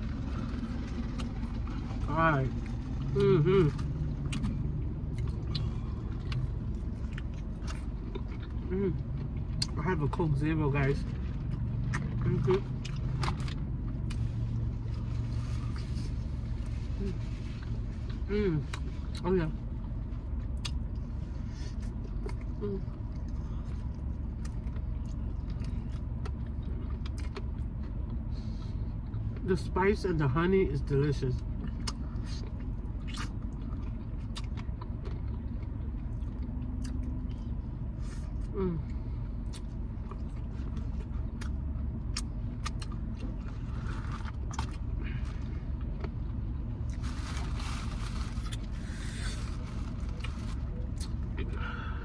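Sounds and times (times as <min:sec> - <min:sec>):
person chewing crunchy food: 0:00.0 - 0:09.8, 0:11.4 - 0:19.2, 0:20.3 - 0:29.4, 0:31.4 - 0:51.9
car engine idling: 0:00.0 - 0:52.0.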